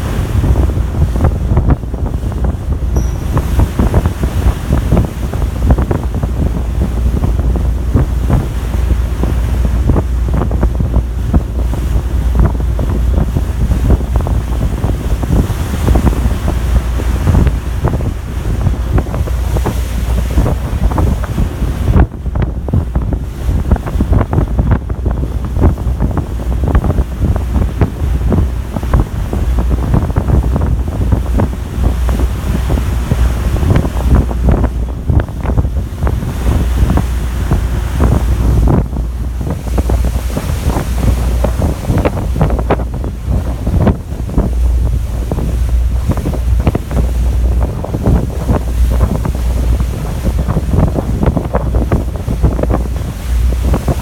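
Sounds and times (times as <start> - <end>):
sea rushing: 0.0 - 54.0
wind buffeting microphone: 0.0 - 54.0.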